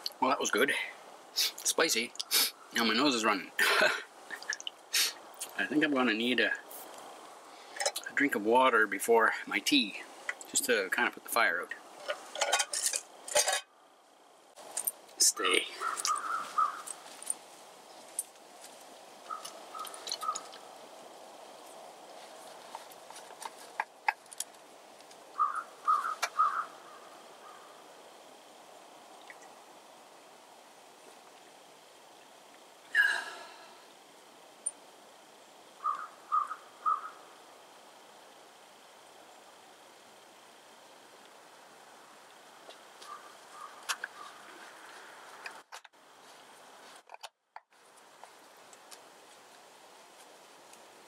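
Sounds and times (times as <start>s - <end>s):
faint steady hiss: 0.0s - 51.0s.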